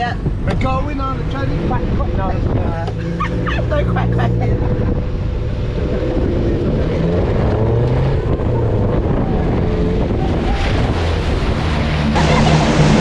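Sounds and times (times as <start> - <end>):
car driving through water: 0.0 - 13.0
car engine running: 0.0 - 13.0
wind buffeting microphone: 0.0 - 13.0.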